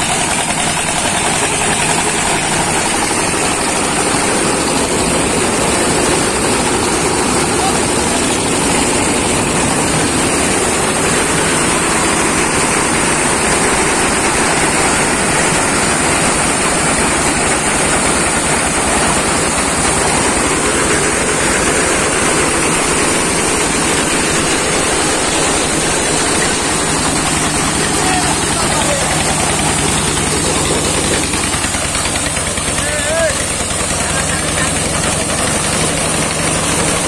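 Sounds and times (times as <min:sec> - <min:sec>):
motorized thresher running: 0:00.0 - 0:37.0.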